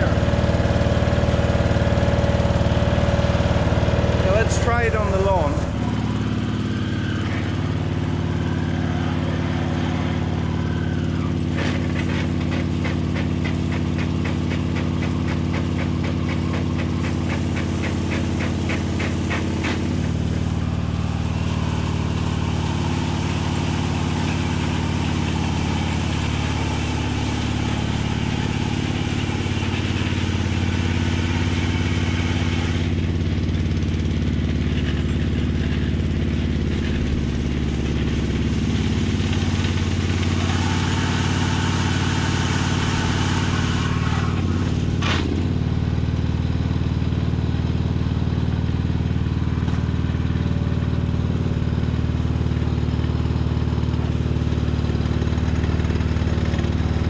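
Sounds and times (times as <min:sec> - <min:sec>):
mower engine running: 0:00.0 - 0:57.0.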